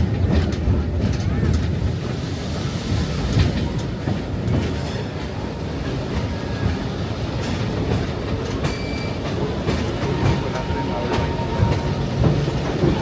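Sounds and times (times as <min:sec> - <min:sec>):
rail joint clicks: 0:00.0 - 0:13.0
train wheels rumbling on rail: 0:00.0 - 0:13.0.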